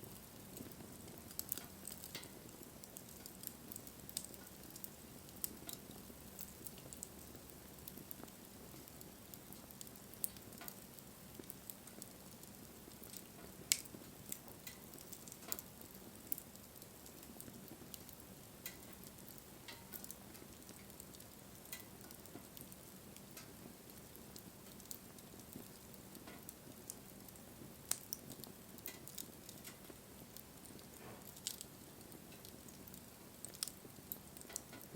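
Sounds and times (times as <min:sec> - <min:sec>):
low hiss of fire: 0:00.0 - 0:34.9
wood fire crackling and popping: 0:00.0 - 0:34.9.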